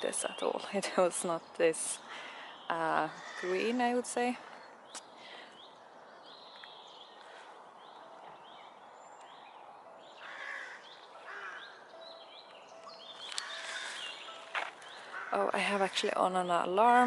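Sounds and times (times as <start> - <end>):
birds chirping: 0.0 - 17.0
outdoor background hiss: 0.0 - 17.0.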